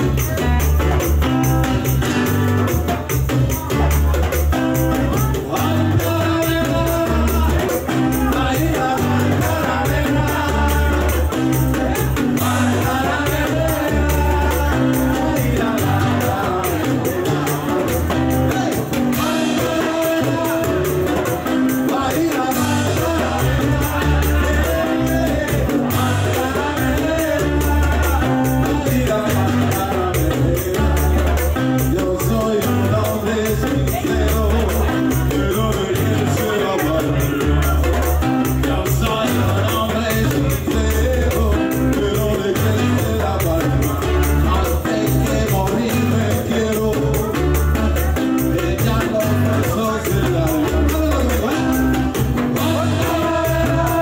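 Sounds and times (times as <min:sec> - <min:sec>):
live band playing: 0:00.0 - 0:54.0
pulsing bass line: 0:00.0 - 0:54.0.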